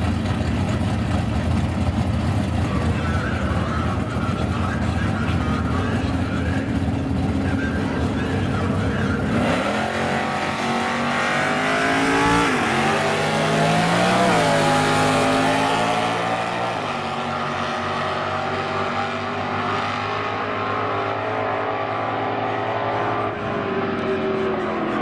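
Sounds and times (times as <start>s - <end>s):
drag car engines revving: 0.0s - 25.0s.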